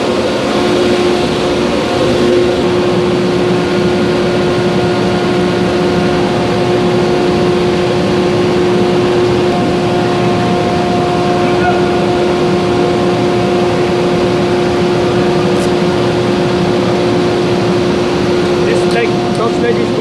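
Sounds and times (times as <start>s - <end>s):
constant hum: 0.0s - 20.0s
furnace roar: 0.0s - 20.0s.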